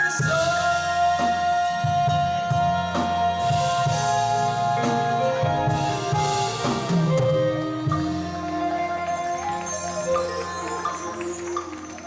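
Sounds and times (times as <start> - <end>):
band playing slow song: 0.0 - 12.0.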